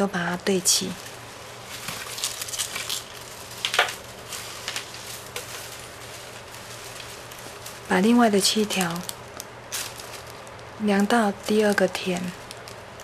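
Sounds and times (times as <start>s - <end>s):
plastic straps rustling and clicking: 0.8s - 13.0s.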